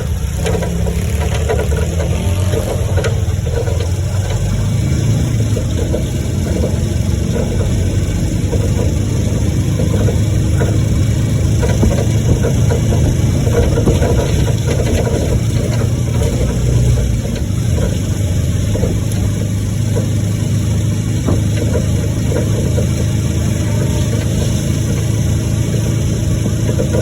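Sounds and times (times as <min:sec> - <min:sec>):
engine rumbling: 0:00.0 - 0:27.0.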